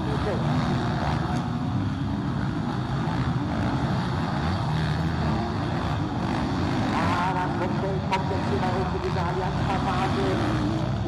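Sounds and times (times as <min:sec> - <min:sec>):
motocross bike engines droning: 0:00.0 - 0:11.0.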